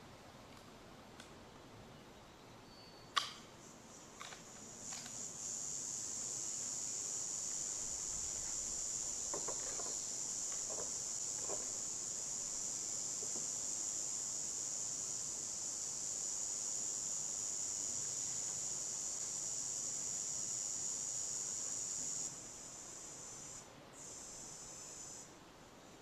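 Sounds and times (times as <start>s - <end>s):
high-pitched insect drone: 3.9s - 25.3s.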